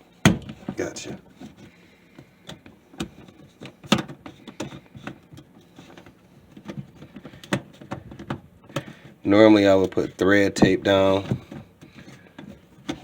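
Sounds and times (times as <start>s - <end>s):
pipe fittings clicking and knocking: 0.2s - 13.0s.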